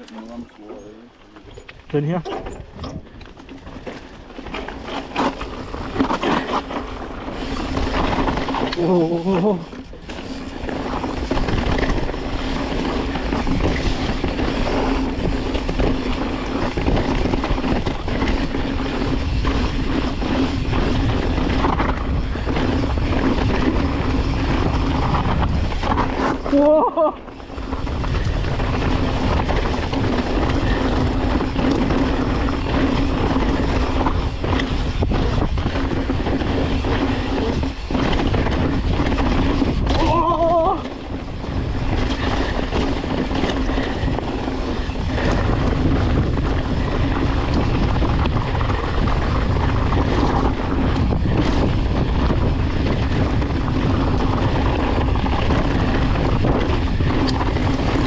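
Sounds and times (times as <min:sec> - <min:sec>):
bike tyres rattling over trail: 0:00.0 - 0:58.0
wind on microphone: 0:01.5 - 0:58.0.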